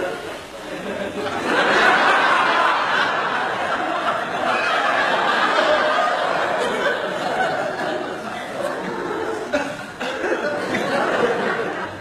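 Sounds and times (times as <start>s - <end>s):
studio audience laughing: 0.0s - 12.0s.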